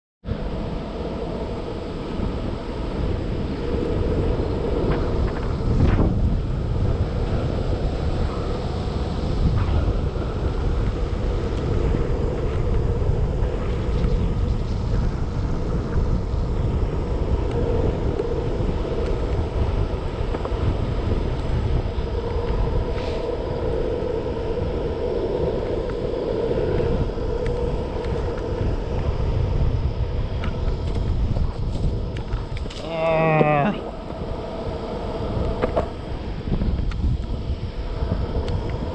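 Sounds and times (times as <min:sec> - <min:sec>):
wind rushing over microphone: 0:00.2 - 0:38.9
low continuous rumble: 0:00.3 - 0:38.9.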